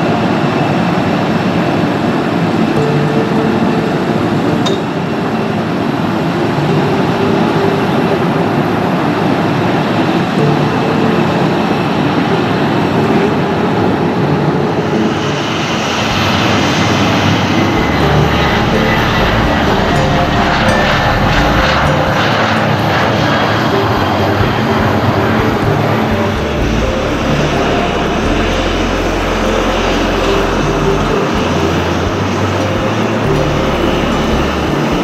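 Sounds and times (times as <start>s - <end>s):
jet engines running loudly: 0.0s - 35.0s.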